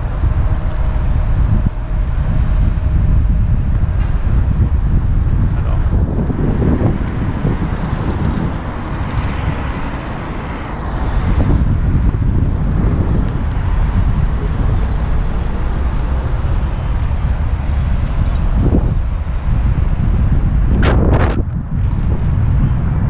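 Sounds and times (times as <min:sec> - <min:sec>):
motor traffic: 0:00.0 - 0:23.0
wind rumble on microphone: 0:00.0 - 0:23.0.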